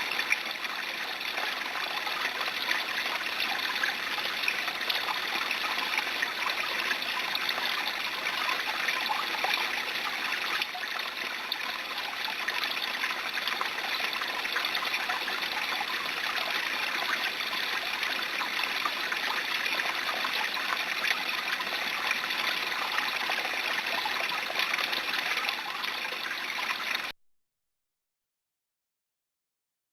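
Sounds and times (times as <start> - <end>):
brook babbling: 0.0 - 27.1.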